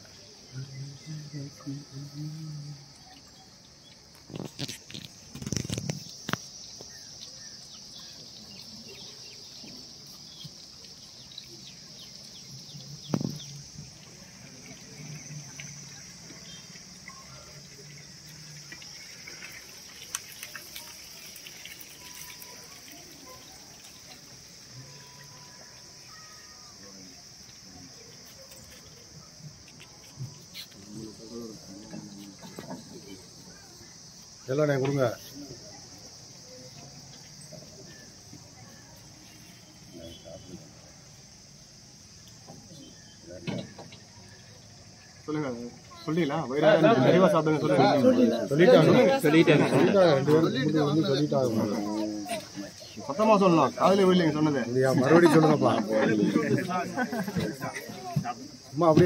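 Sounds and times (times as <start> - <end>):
faint chatter: 0.0 - 59.0
high-pitched insect drone: 0.0 - 59.0.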